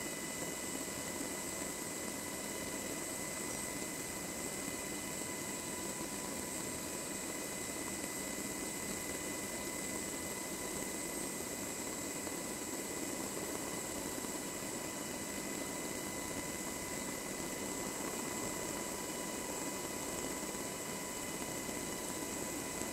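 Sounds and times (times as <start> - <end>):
helicopter engines and rotor: 0.0 - 22.9.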